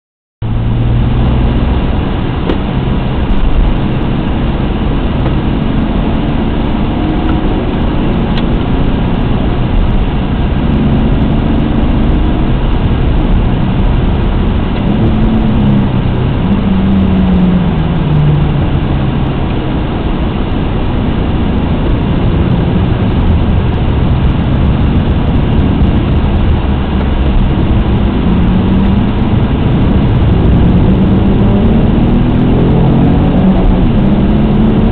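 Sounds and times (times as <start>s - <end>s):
car engine revving: 0.4s - 34.9s
road and wind noise: 0.4s - 34.9s.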